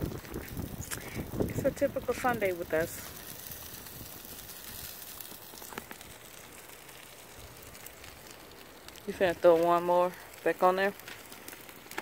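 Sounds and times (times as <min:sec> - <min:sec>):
chicken sizzling on grill: 0:00.0 - 0:12.0.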